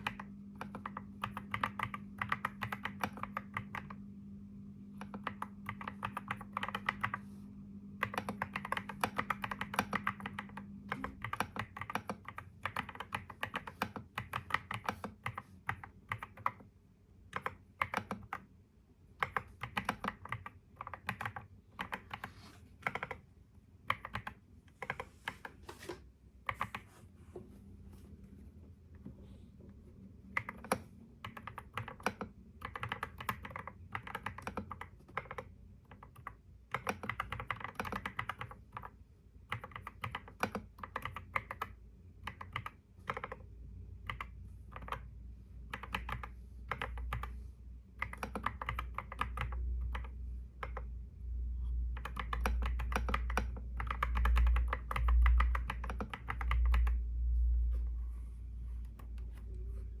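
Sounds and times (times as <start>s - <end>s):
typing on computer keyboard: 0.0s - 4.0s, 4.9s - 7.2s, 8.0s - 16.7s, 17.3s - 18.5s, 19.1s - 25.5s, 26.4s - 26.9s, 30.3s - 50.9s, 51.9s - 57.0s.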